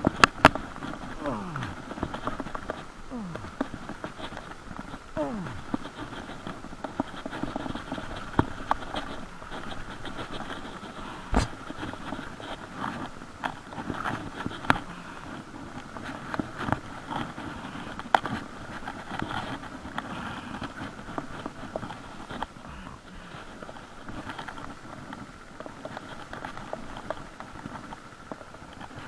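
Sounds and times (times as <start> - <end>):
handling scraping and rustling: 0.0 - 29.0.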